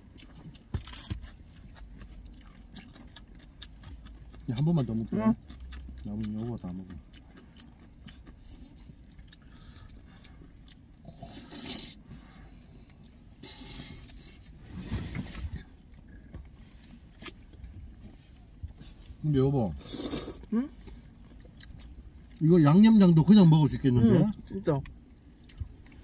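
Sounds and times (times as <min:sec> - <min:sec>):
noodles slurped and chewed: 0:00.0 - 0:19.2, 0:19.8 - 0:22.4.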